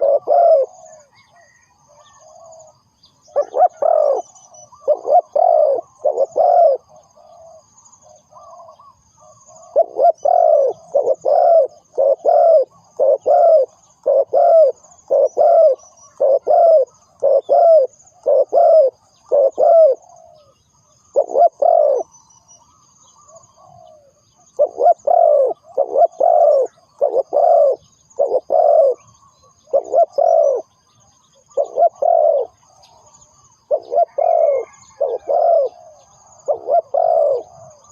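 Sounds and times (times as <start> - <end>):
dove cooing: 0.0 - 37.9
faint high bird twittering: 0.0 - 37.9.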